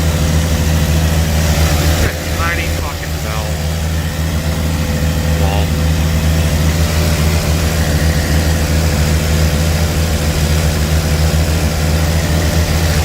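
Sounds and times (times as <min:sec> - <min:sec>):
car engine fast idling: 0:00.0 - 0:13.0.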